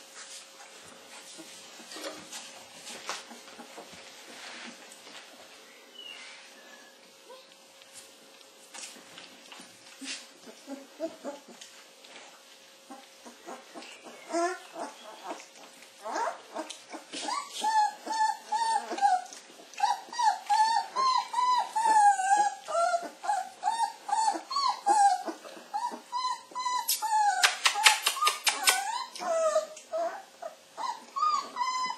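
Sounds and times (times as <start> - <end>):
puppies whimpering and squeaking: 1.2 - 5.2, 9.6 - 12.2, 12.8 - 31.9.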